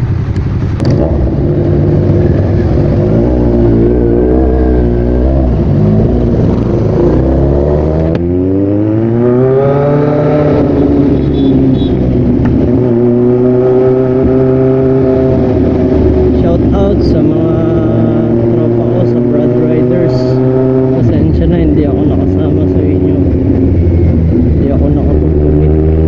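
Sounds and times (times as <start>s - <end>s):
gear change: 0.0s - 26.0s
motorcycle engine revving: 0.0s - 26.0s.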